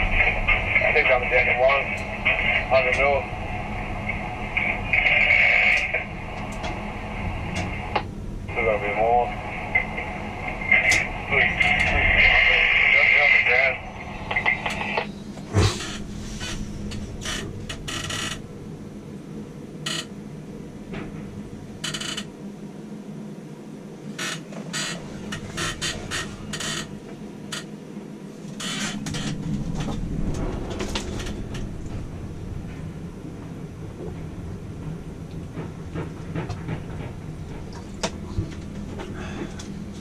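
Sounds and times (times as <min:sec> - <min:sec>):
crane machinery humming: 0:00.0 - 0:40.0.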